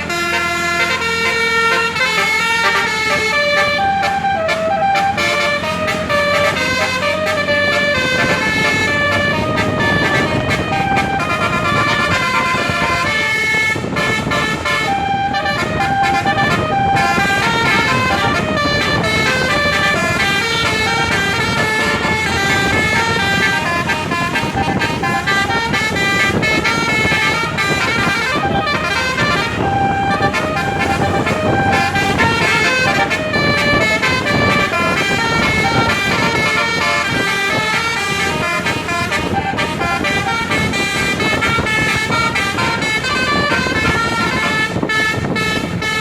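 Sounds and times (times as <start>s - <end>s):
low vehicle rumble: 0.0s - 46.0s
musical air horn melody: 0.0s - 46.0s.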